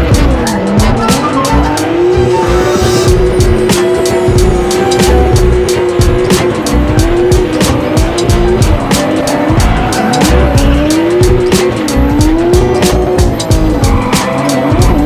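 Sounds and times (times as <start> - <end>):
car engine revving: 0.0 - 15.0
music with a steady beat: 0.0 - 15.0
tyres squealing: 0.3 - 15.0.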